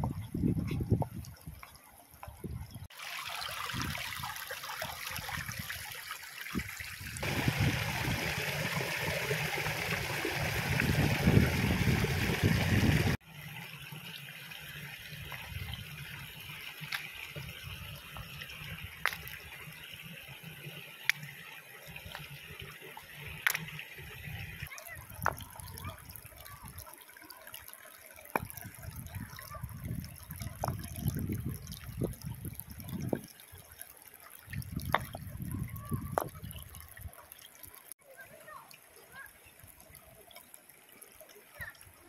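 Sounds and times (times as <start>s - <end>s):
stream trickling over rocks: 0.0s - 42.0s.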